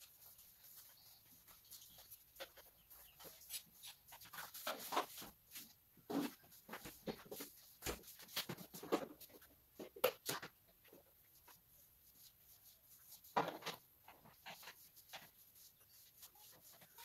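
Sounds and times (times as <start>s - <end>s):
paintbrush scrubbing a wall: 0.0s - 8.8s, 11.2s - 17.0s.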